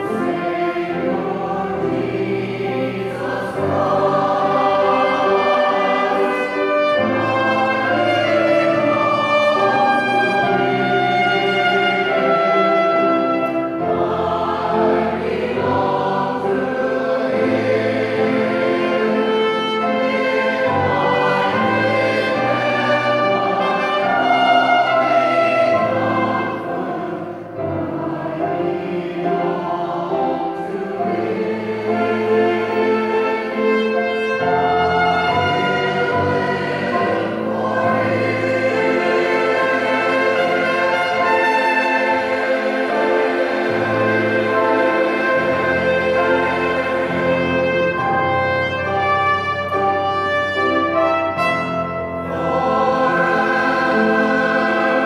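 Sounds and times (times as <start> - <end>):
church choir singing: 0.0 - 55.0
trumpet: 3.1 - 28.4, 30.6 - 55.0.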